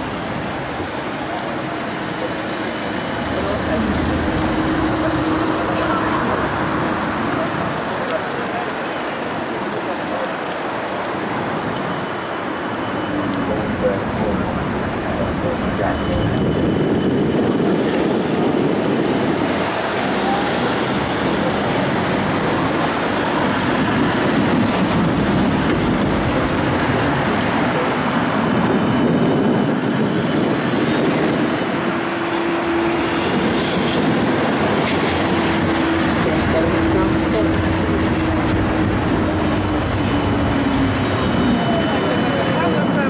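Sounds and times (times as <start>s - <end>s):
tram wheels rumbling: 0.0s - 43.0s.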